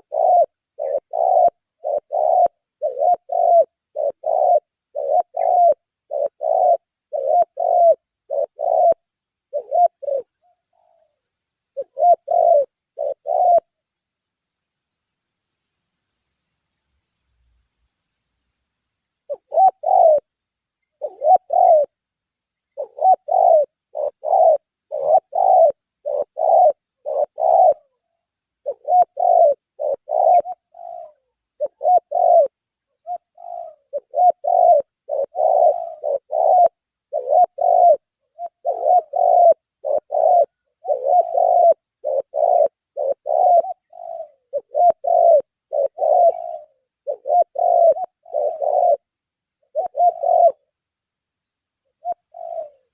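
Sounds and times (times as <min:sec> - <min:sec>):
dove cooing: 0:00.0 - 0:13.8, 0:19.2 - 0:20.3, 0:20.9 - 0:22.1, 0:22.7 - 0:50.8, 0:51.7 - 0:52.9.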